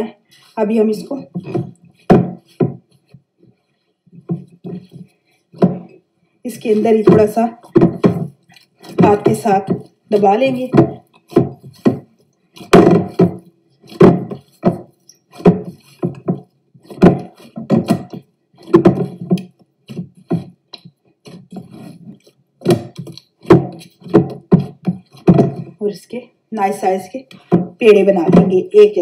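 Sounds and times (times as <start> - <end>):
dough kneaded in glass bowl: 0.0 - 29.0.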